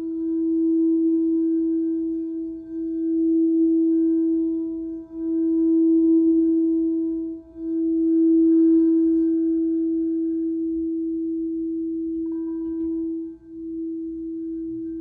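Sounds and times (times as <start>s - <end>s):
singing bowl sustained tone: 0.0s - 15.0s.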